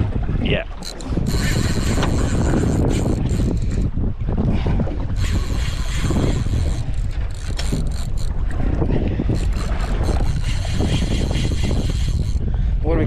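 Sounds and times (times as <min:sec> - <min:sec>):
water washing around hull: 0:00.0 - 0:13.0
wind buffeting microphone: 0:00.0 - 0:13.0.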